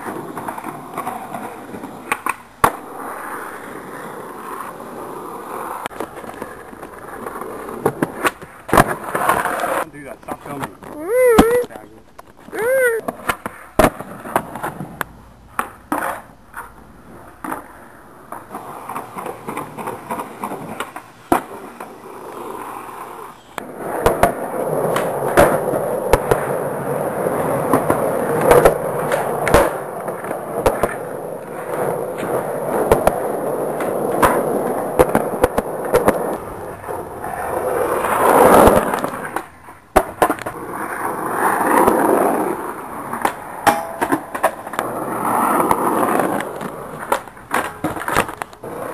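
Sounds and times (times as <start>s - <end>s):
skateboard pops and landings: 0.0s - 9.8s, 13.0s - 48.9s
skateboard clacks: 0.0s - 48.9s
skateboard wheels rolling: 0.0s - 48.9s.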